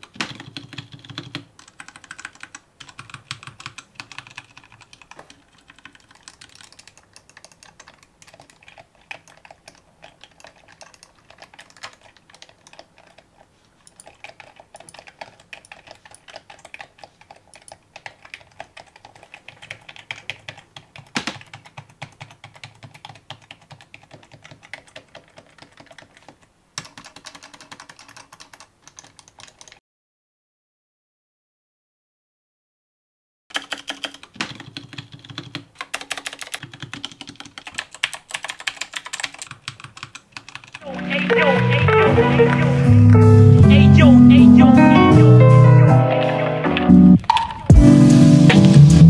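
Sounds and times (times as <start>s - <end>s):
rapid keyboard typing: 0.0s - 29.8s, 33.5s - 45.2s.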